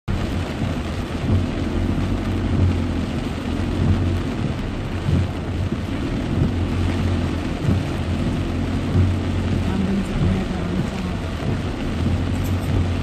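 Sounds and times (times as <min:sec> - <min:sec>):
car driving on wet road: 0:00.0 - 0:13.0
heavy rain hitting a car: 0:00.1 - 0:13.0.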